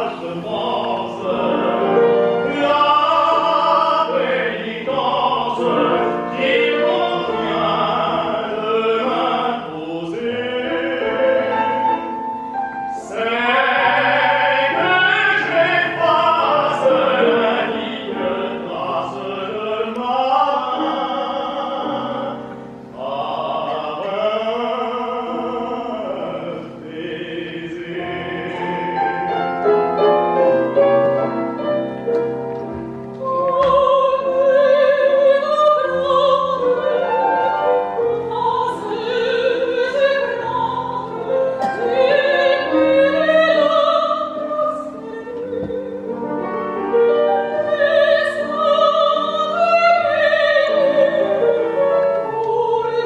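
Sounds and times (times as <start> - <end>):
grand piano accompaniment: 0.0 - 53.0
soprano singing: 0.0 - 53.0
tenor singing opera: 0.0 - 53.0.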